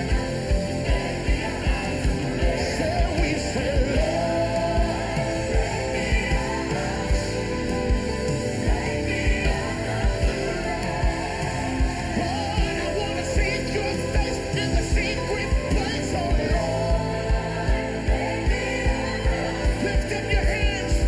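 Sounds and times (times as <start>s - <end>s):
person singing: 0.0s - 21.0s
steady drum beat: 0.0s - 21.0s
worship band music: 0.0s - 21.0s.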